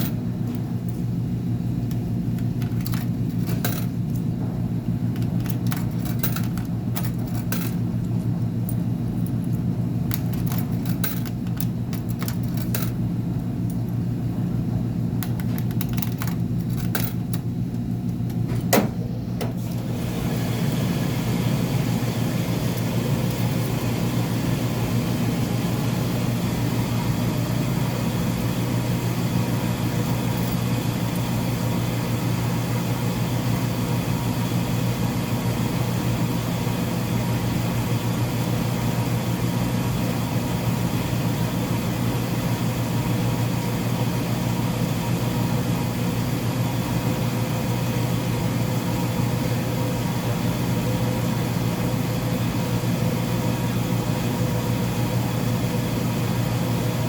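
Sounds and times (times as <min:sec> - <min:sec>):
laundry machines humming: 0:00.0 - 0:57.0.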